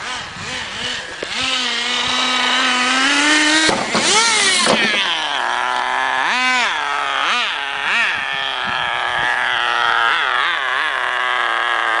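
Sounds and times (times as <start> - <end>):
rc buggy engine revving: 0.0 - 12.0.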